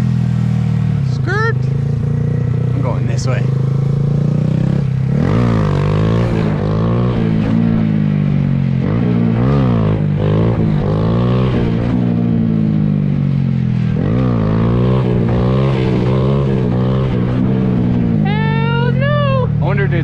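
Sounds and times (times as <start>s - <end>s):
dirt bike engine revving: 0.0s - 12.8s, 13.8s - 20.0s
engine running steadily: 0.0s - 20.0s.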